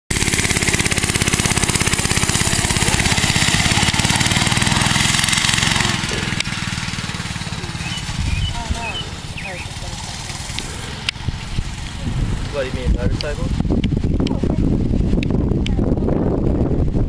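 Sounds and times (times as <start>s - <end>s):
small engine pulsing: 0.1s - 17.0s.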